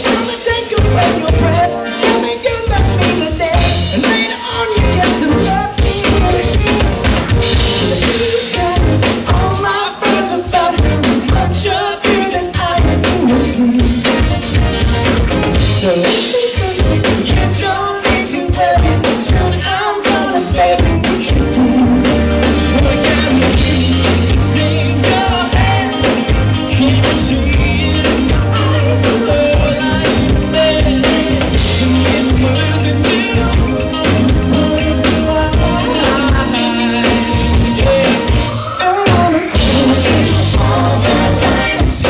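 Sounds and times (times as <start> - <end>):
man singing: 0.0 - 14.3, 15.6 - 42.0
bass guitar: 0.0 - 42.0
drum kit: 0.0 - 42.0
electric guitar: 0.0 - 42.0.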